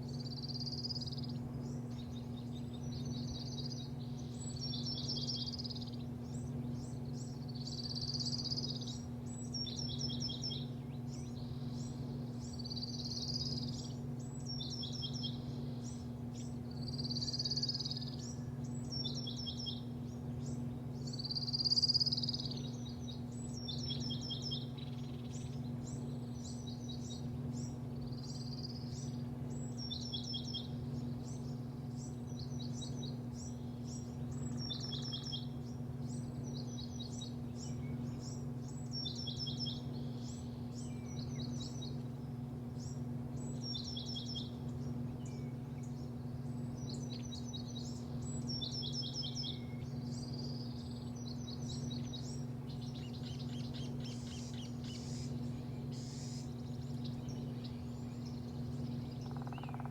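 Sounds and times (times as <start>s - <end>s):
low machine hum: 0.0s - 59.9s
small birds chirping: 0.0s - 59.9s.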